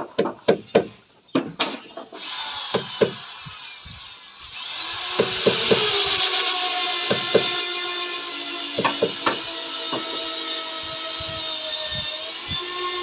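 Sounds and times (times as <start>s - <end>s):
power tool cutting wood: 2.0s - 13.0s.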